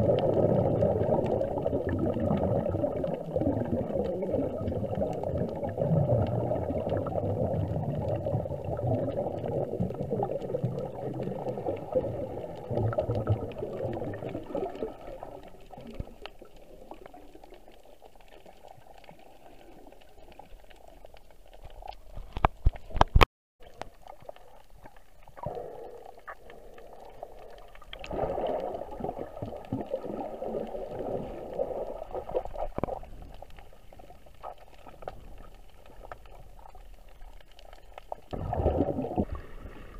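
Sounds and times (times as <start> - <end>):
muffled water gurgling underwater: 0.0 - 39.9.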